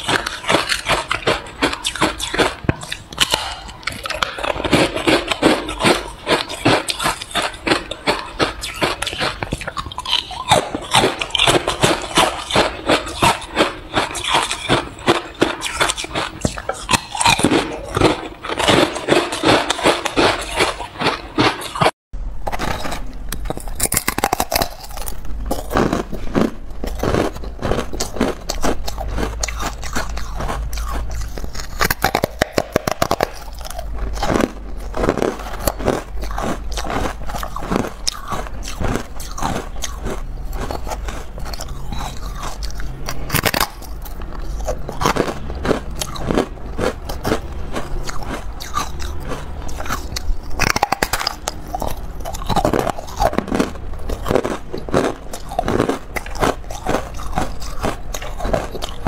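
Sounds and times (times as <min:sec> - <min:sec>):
ice crunching and chewing: 0:00.0 - 0:59.0.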